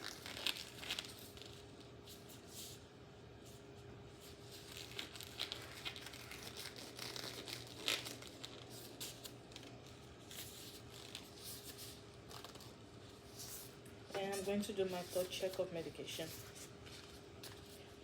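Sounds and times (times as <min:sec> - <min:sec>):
packaging crinkling and rustling: 0:00.0 - 0:02.0, 0:04.3 - 0:18.0
faint steady hum: 0:00.0 - 0:18.0.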